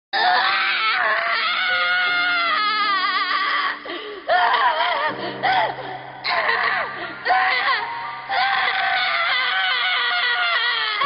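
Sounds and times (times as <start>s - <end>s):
boy screaming: 0.2s - 5.2s, 6.2s - 11.0s.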